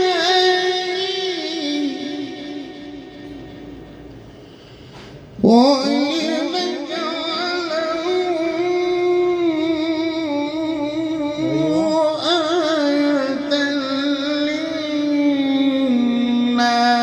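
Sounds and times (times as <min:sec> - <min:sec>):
man chanting melodically: 0:00.0 - 0:04.0, 0:05.4 - 0:17.0.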